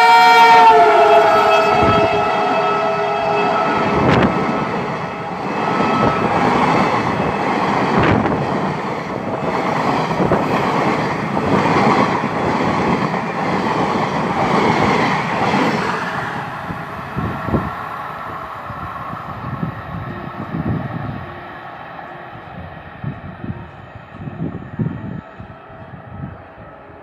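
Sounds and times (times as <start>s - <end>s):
train wheels rumbling on rails: 0.6s - 27.0s.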